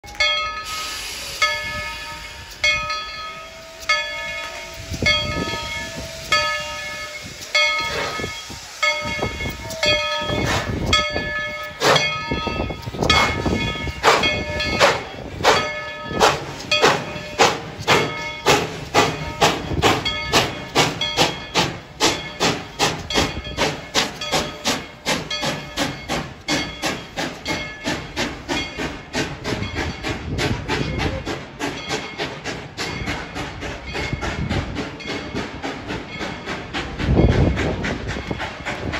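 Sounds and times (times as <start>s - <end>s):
locomotive bell ringing: 0.0s - 38.6s
steam locomotive exhaust chuffs: 0.1s - 38.9s
steam hissing: 0.4s - 38.9s.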